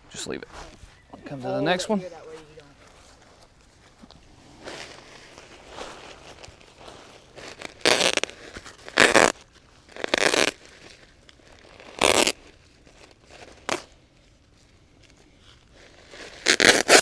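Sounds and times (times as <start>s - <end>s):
plastic fabric crinkling and rasping: 2.3s - 17.0s.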